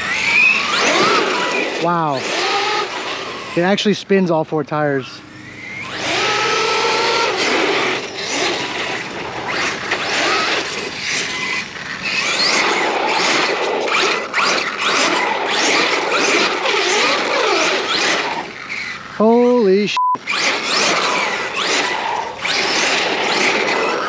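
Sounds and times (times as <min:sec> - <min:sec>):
electric motor whining: 0:00.0 - 0:04.0, 0:05.0 - 0:24.0
drivetrain and tyre noise: 0:00.0 - 0:24.0.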